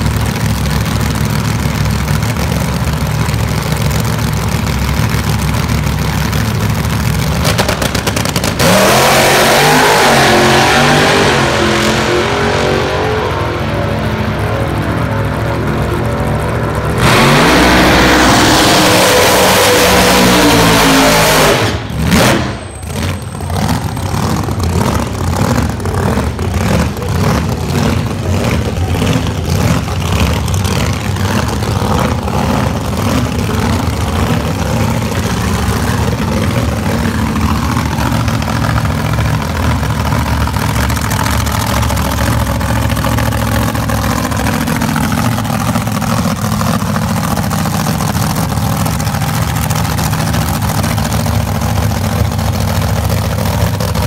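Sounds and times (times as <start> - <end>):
hot rod engine revving and idling: 0.0 - 54.0.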